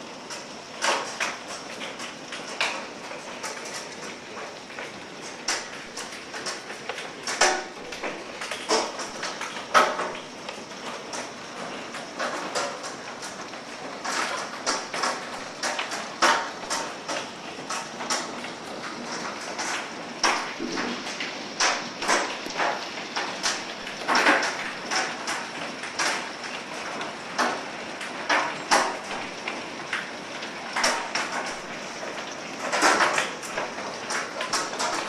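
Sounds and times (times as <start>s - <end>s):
hailstones knocking: 0.0s - 35.0s
hail hissing: 0.2s - 35.0s.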